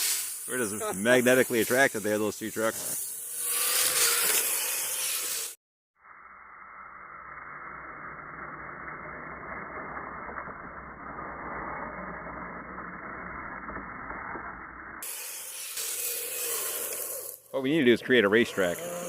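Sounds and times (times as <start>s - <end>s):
toy snow trucks driving through snow: 0.0s - 5.6s, 7.2s - 19.0s.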